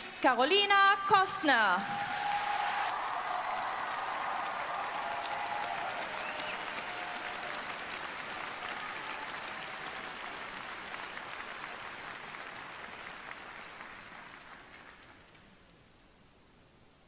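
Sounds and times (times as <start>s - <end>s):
audience applauding: 1.6s - 15.7s.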